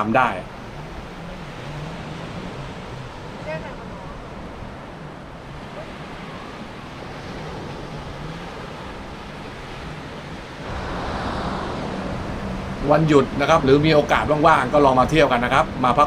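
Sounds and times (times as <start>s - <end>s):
waves washing on shore: 0.0s - 16.0s.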